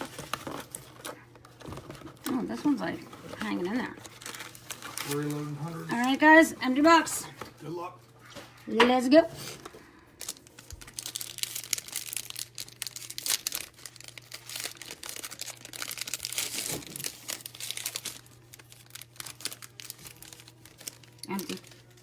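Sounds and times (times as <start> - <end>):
wrapper tearing and crinkling: 0.0 - 6.3, 10.2 - 22.0.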